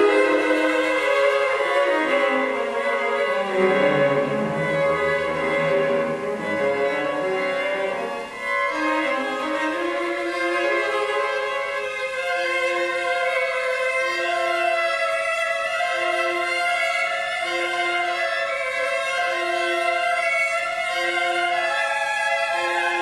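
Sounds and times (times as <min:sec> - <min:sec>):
cello and string quartet: 0:00.0 - 0:23.0.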